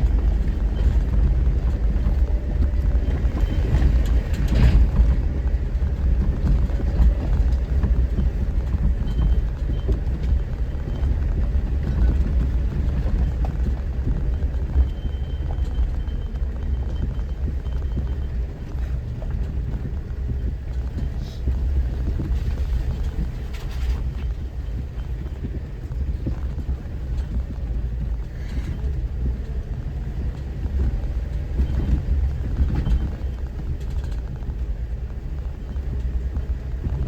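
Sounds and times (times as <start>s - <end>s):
knocks and rattles in cab: 0.0s - 37.0s
vehicle rumbling over rough trail: 0.0s - 37.0s.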